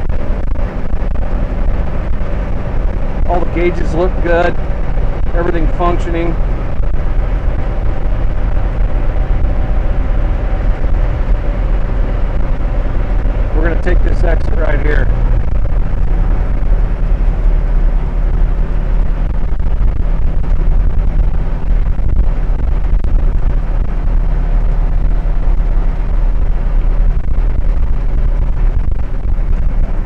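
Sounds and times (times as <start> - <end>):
bus engine drone: 0.0 - 30.0
road noise: 0.0 - 30.0.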